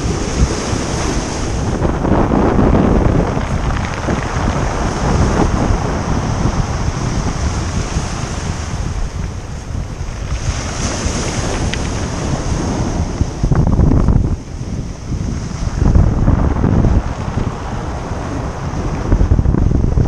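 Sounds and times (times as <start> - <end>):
waves washing on pebble beach: 0.0 - 13.6, 14.6 - 19.8
wind buffeting microphone: 0.0 - 20.0.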